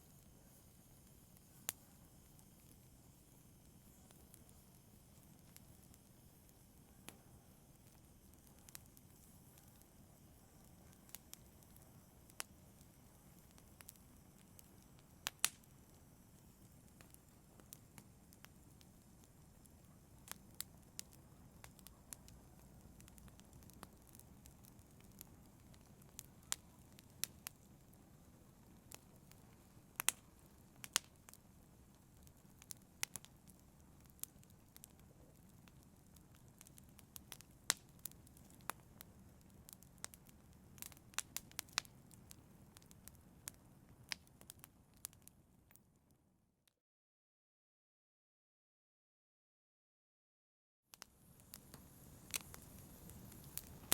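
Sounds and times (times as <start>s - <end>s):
wood fire crackling: 0.0s - 45.8s, 51.0s - 53.9s.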